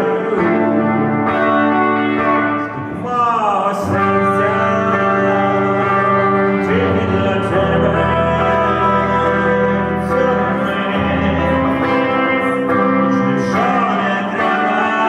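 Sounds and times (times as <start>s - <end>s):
guitar-led instrumental music: 0.0s - 15.0s.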